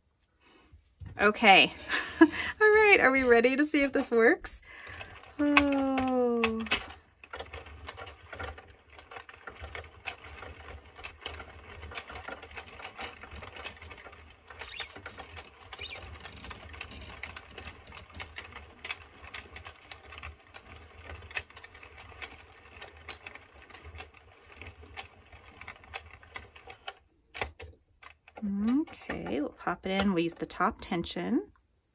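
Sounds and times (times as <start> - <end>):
knitting machine clicking: 1.4 - 30.9.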